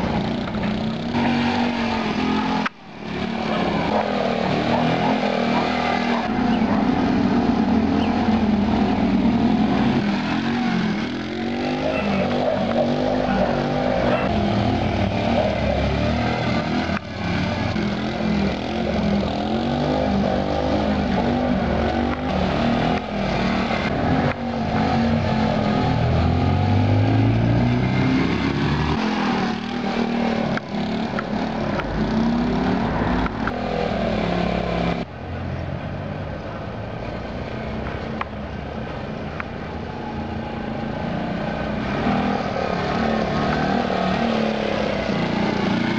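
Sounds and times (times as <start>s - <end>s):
minibike engine revving: 0.0s - 35.1s, 39.9s - 45.9s.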